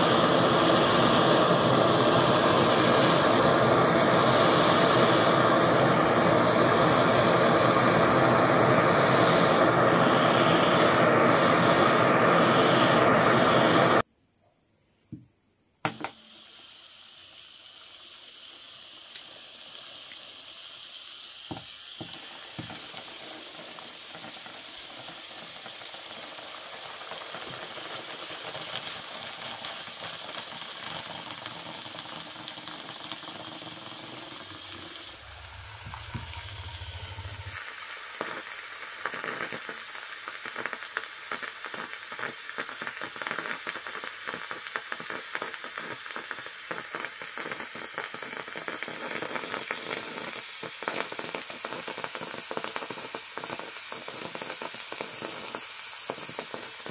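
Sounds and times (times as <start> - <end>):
burning charcoal sizzling and crackling: 0.0 - 14.0, 15.9 - 56.9.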